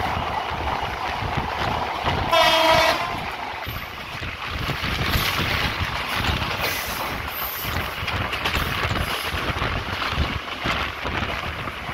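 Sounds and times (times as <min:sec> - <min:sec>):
train rumbling and rattling: 0:00.0 - 0:11.9
wind buffeting microphone: 0:00.0 - 0:11.9.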